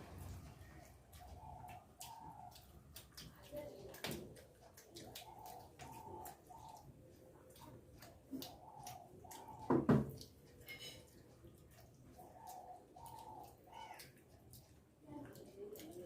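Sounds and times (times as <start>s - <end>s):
mouth clicks and smacks eating: 0.0s - 16.0s
pigeons cooing: 0.0s - 16.0s.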